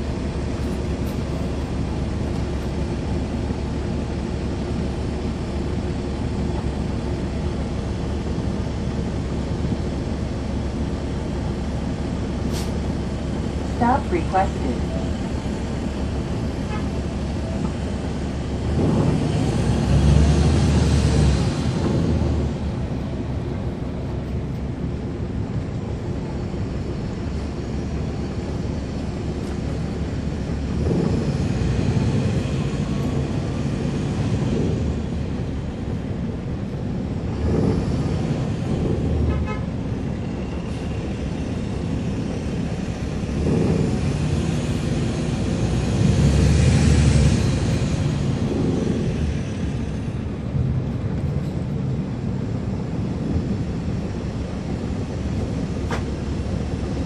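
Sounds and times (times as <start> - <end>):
bus diesel engine running: 0.0 - 57.0
road and body noise: 0.0 - 57.0.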